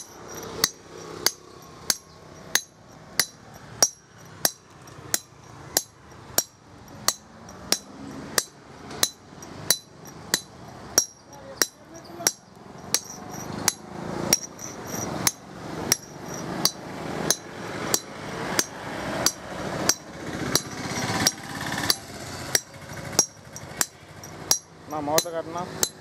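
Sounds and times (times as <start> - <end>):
hammer striking chisel on stone: 0.0 - 26.0.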